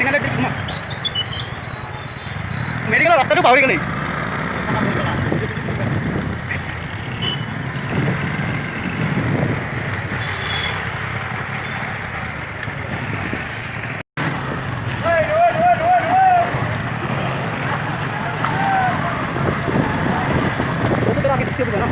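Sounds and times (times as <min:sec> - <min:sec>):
vehicle engine and road noise: 0:00.0 - 0:21.9.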